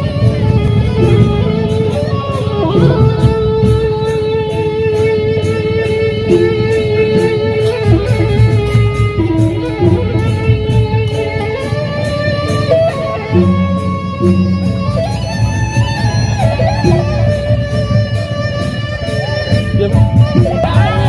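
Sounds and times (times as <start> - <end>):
bamboo flute melody: 0.0 - 21.0
big drums: 0.0 - 21.0.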